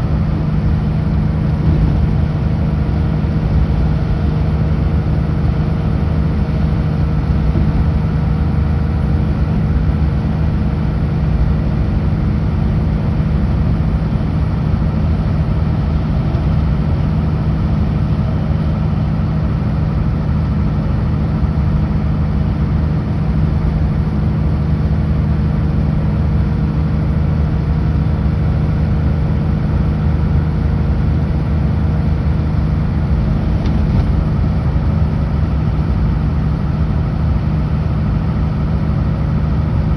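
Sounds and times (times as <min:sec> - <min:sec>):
road noise: 0:00.0 - 0:21.8, 0:25.9 - 0:39.9
truck diesel engine droning: 0:00.0 - 0:39.9.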